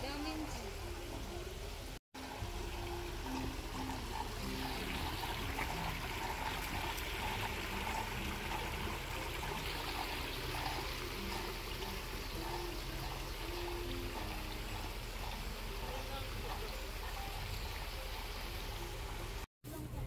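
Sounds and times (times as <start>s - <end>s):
water trickling and splashing: 0.0s - 19.5s.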